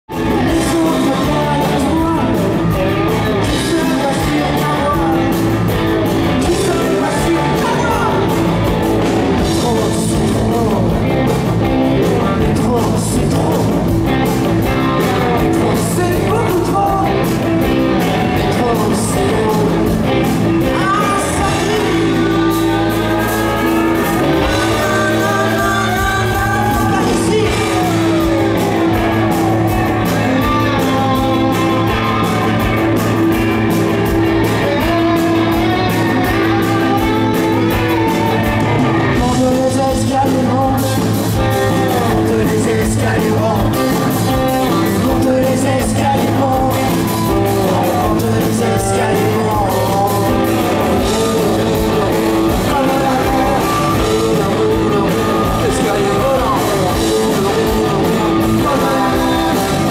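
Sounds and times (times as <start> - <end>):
bass guitar: 0.0 - 59.9
drums: 0.0 - 59.9
electric guitar: 0.0 - 59.9
person singing: 0.0 - 59.9.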